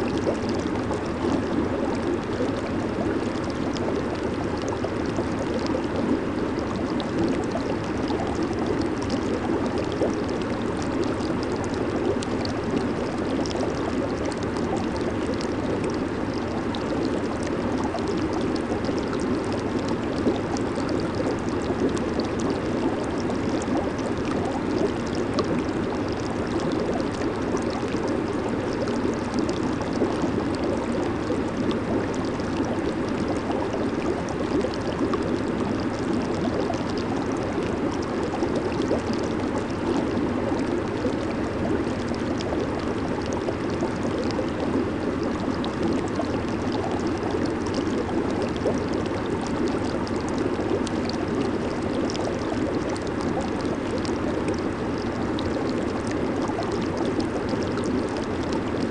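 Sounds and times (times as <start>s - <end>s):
jacuzzi jets bubbling water: 0.0s - 58.9s.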